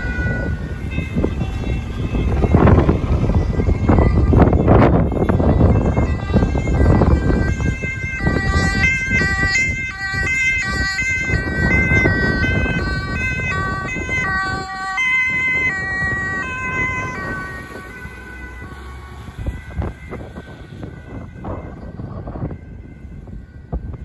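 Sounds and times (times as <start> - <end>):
engine and road rumble: 0.0 - 24.0
two-tone siren: 0.0 - 24.0.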